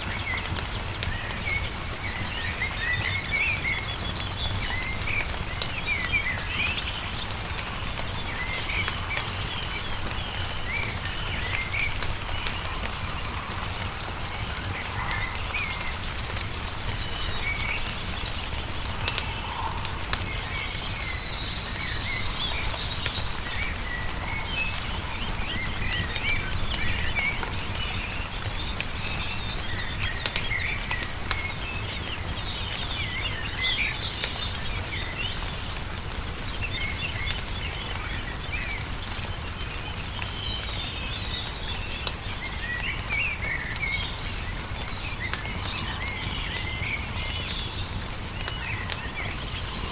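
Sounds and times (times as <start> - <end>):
songbirds chirping: 0.0 - 49.9
wood fire crackling and popping: 0.0 - 49.9.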